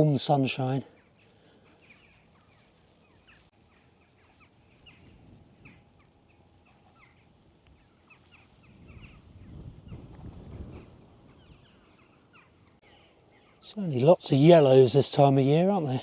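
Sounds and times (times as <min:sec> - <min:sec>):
distant birds chirping: 0:00.0 - 0:16.0
light wind: 0:00.0 - 0:16.0.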